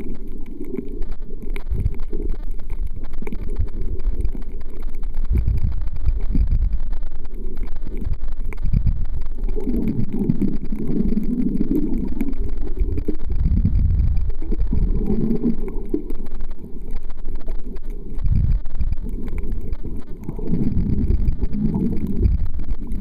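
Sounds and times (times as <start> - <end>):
muffled underwater rumble: 0.0 - 23.0
underwater gurgling: 0.0 - 23.0.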